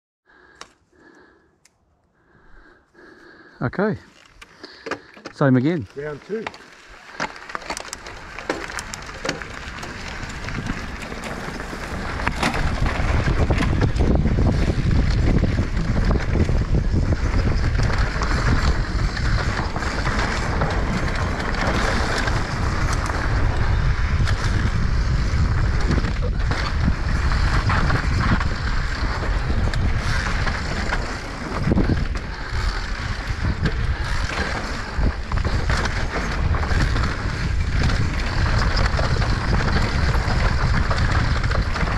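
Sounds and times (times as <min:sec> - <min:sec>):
bike clicks and rattles: 0:02.5 - 0:41.9
tyres rolling over dirt: 0:03.8 - 0:41.9
wind buffeting microphone: 0:08.0 - 0:41.9.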